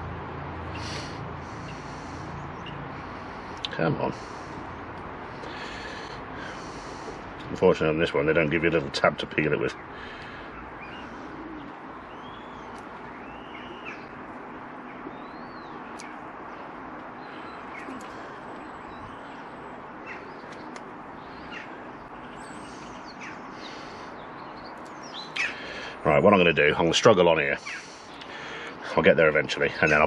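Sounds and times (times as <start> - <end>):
small birds chirping: 0.6 - 30.0.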